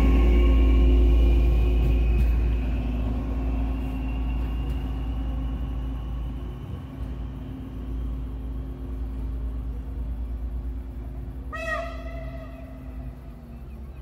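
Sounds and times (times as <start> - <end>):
diesel train engine hum and whine: 0.0 - 14.0.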